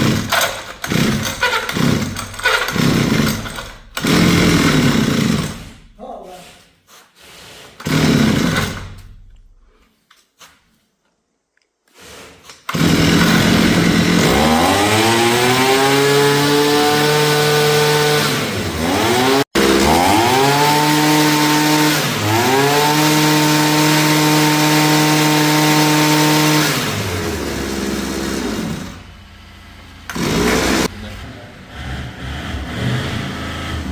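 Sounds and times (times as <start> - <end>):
brush cutter engine revving: 0.0 - 5.8, 7.8 - 9.2, 12.7 - 29.2, 30.0 - 33.9.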